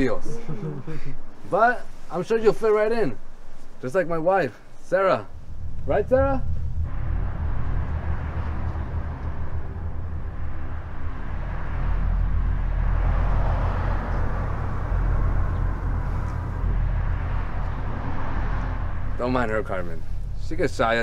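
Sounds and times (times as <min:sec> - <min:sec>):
low rumble: 0:02.9 - 0:21.0.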